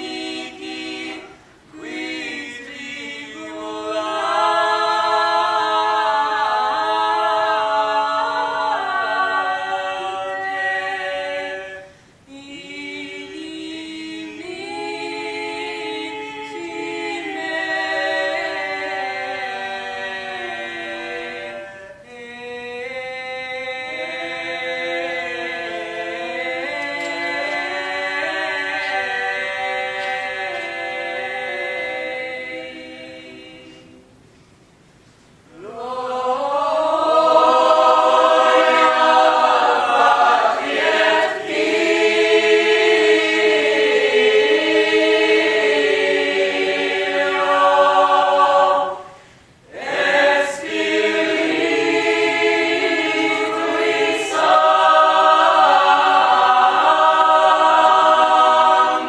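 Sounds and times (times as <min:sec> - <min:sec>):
mixed choir singing a cappella: 0:00.0 - 0:34.2, 0:35.5 - 0:59.0.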